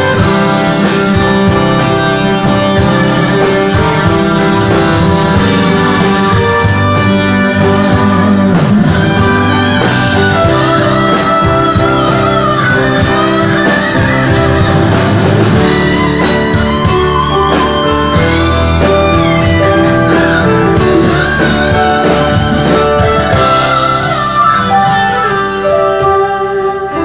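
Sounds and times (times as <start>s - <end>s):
electric lead guitar: 0.0s - 27.0s
live rock band playing: 0.0s - 27.0s.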